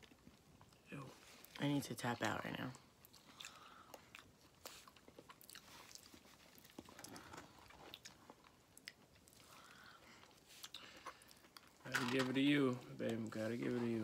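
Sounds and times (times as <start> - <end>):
chewing crunchy food: 0.0 - 11.9.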